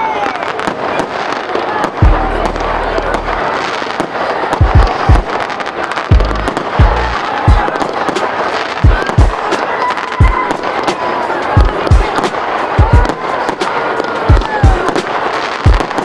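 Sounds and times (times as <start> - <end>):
fireworks booming: 0.0 - 16.0
fireworks crackling: 0.0 - 16.0.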